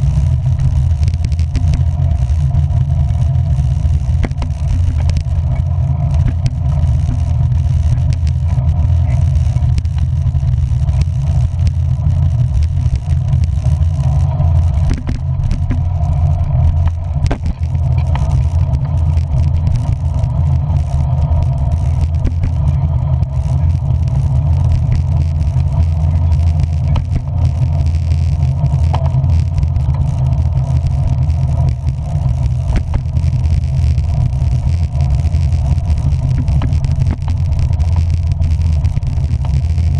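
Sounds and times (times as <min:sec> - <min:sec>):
moving vehicle rumble: 0:00.0 - 0:39.9.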